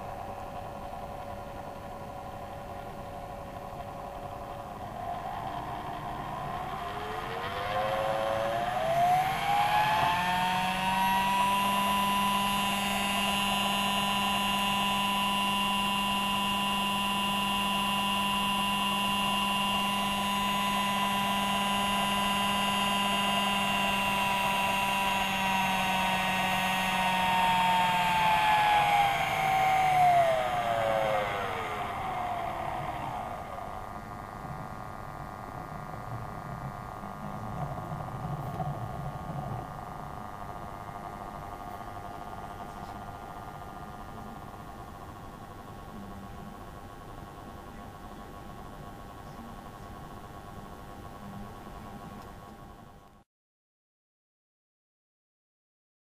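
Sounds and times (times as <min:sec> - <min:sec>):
electric motor whine: 0:00.0 - 0:47.1.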